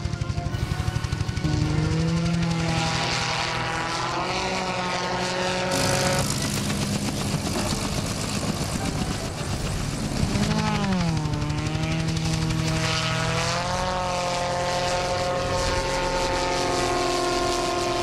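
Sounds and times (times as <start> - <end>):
aircraft engine and propeller drone: 0.0 - 18.0.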